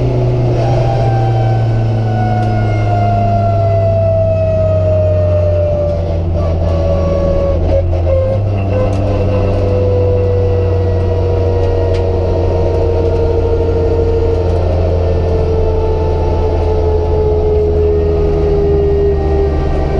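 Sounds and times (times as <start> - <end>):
car engine running: 0.0 - 19.9
road and tyre noise: 0.0 - 19.9.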